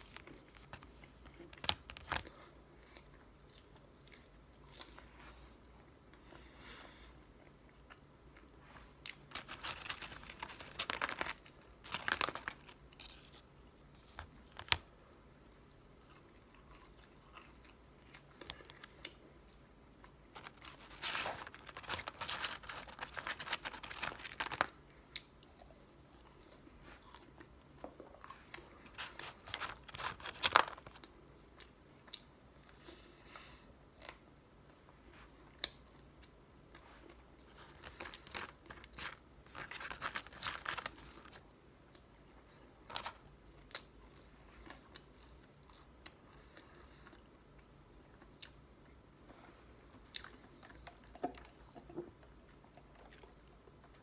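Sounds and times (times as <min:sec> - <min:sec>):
chewing and crunching fries: 0:00.0 - 0:05.7, 0:07.4 - 0:34.8, 0:35.4 - 0:49.0, 0:49.9 - 0:54.0.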